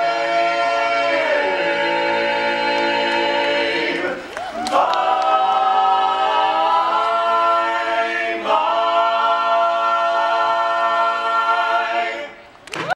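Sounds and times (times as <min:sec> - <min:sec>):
quartet singing a cappella: 0:00.0 - 0:12.5.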